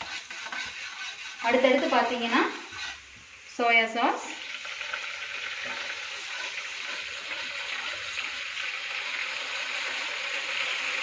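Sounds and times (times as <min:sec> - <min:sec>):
metal spatula stirring: 0:00.0 - 0:03.2, 0:04.5 - 0:11.0
oil sizzling in a wok: 0:00.0 - 0:11.0.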